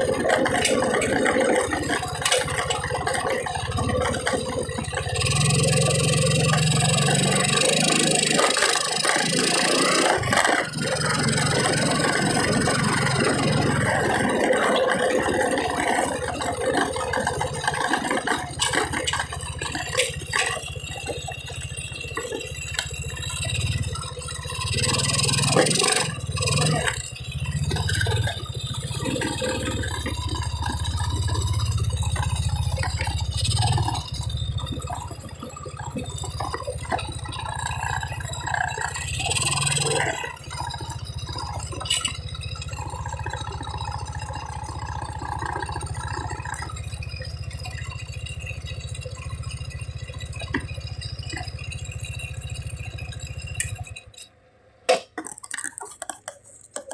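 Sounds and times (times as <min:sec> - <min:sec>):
knocks and rattles: 0:00.0 - 0:54.3.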